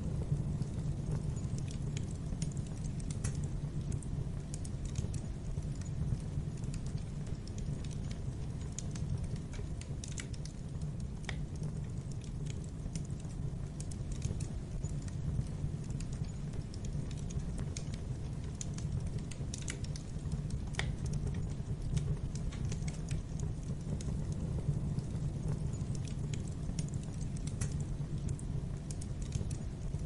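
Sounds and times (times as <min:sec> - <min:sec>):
fireplace fire crackling: 0:00.0 - 0:30.0
low rumble of fire: 0:00.0 - 0:30.0.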